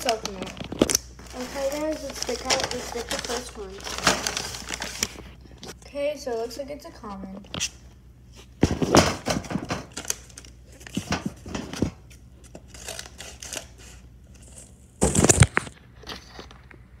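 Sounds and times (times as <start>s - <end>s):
packaging rustling and tearing: 0.0s - 5.8s, 8.6s - 16.6s.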